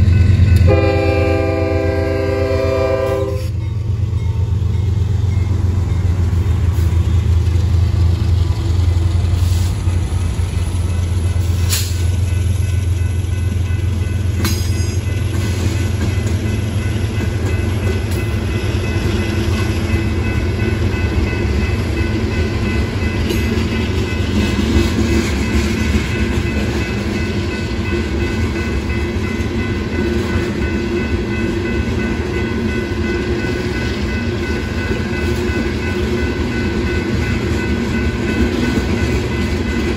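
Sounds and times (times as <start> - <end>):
diesel locomotive rumble: 0.0 - 39.9
train wheels rumbling on rails: 0.0 - 39.9.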